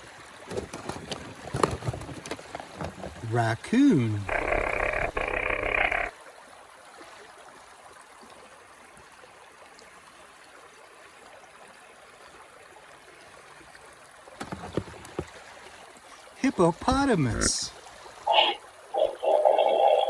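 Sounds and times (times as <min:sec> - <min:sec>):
small stream trickling: 0:00.0 - 0:20.0.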